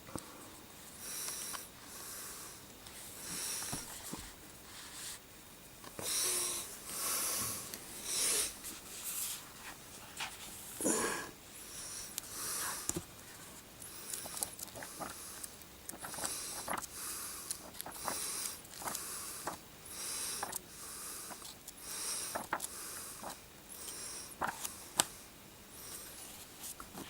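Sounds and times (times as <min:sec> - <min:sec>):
heavy hissing breaths: 0:00.1 - 0:05.2, 0:06.0 - 0:09.4, 0:10.7 - 0:13.0, 0:13.8 - 0:26.2.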